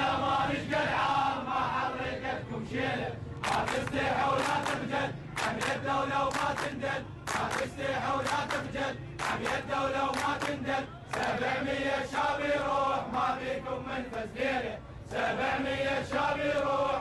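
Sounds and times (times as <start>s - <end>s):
crowd of men chanting: 0.0s - 17.0s.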